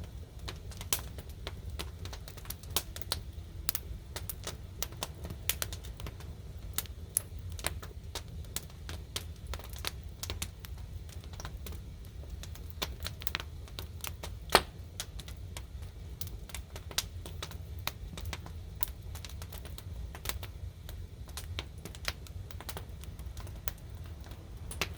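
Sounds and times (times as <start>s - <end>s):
firewood crackling and popping: 0.0s - 24.9s
low steady rumble: 0.0s - 24.9s.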